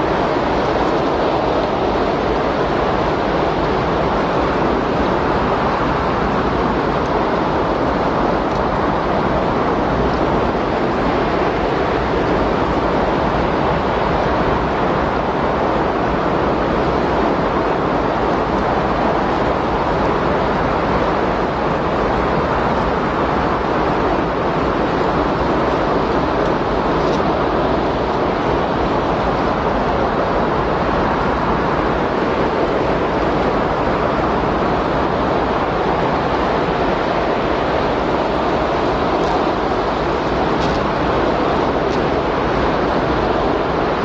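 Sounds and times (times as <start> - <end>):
steady rushing wind: 0.0 - 44.0.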